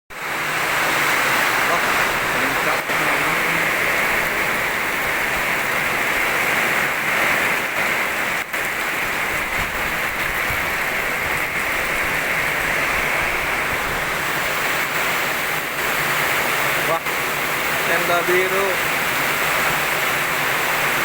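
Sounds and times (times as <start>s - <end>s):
strong wind with rain: 0.1s - 21.0s.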